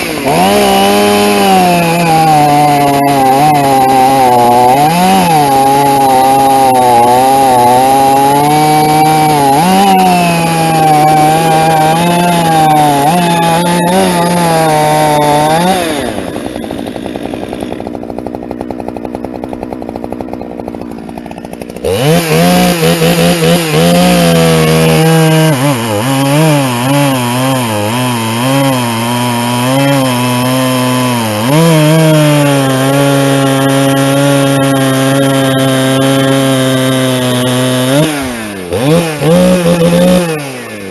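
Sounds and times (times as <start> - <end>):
chainsaw cutting log: 0.0 - 40.9
chainsaw idling: 0.0 - 40.9.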